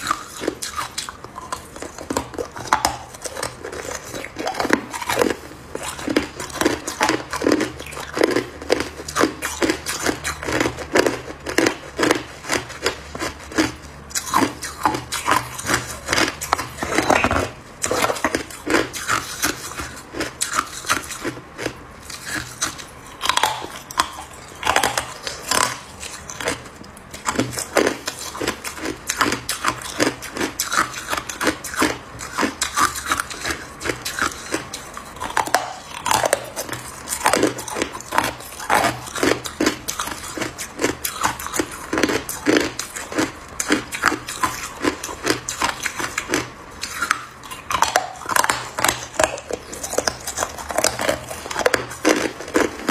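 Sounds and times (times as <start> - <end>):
ice being chewed crunching: 0.0 - 52.9.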